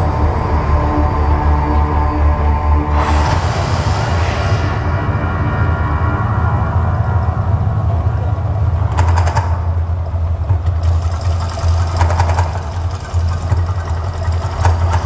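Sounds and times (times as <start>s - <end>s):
deep steady rumble: 0.0s - 15.0s.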